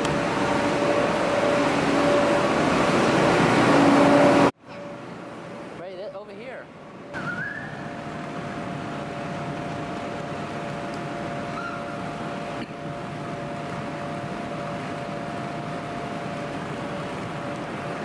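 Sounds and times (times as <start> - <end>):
electric blowers humming: 0.0 - 18.0.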